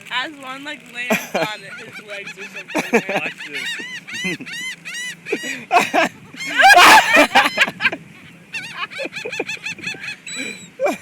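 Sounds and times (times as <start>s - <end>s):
seagulls squawking: 1.3s - 11.0s
loud harsh gull cry: 1.8s - 11.0s.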